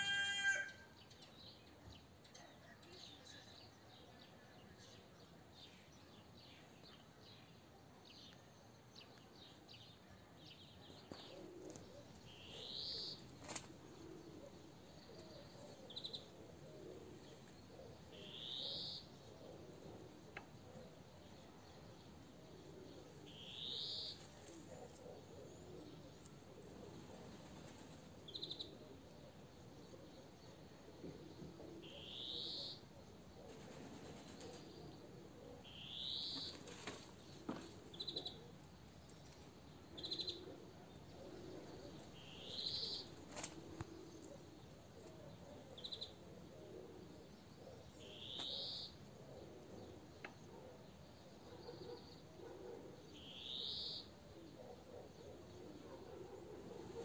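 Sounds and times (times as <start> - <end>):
songbirds singing faintly: 0.0 - 57.0.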